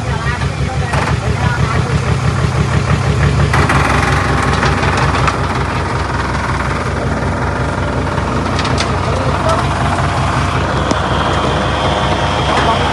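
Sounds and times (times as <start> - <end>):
heavy diesel engine running: 0.0 - 12.9
rough high-pitched mechanical noise: 0.0 - 12.9.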